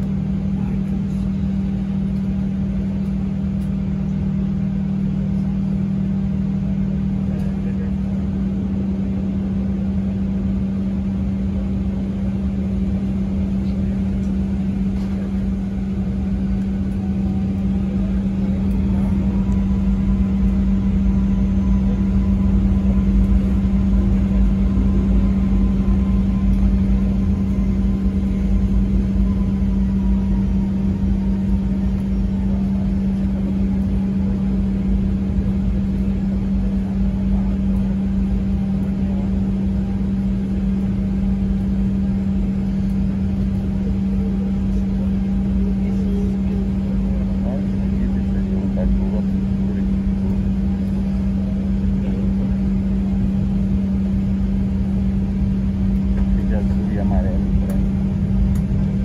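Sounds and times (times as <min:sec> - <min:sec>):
vehicle engine drone: 0:00.0 - 0:59.0.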